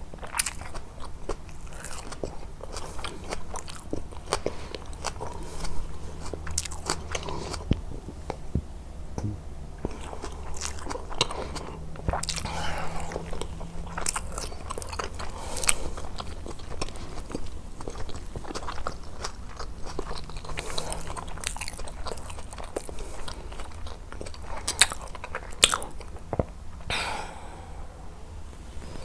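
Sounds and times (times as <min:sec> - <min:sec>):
chewing and biting food: 0:00.0 - 0:08.7, 0:09.8 - 0:26.9.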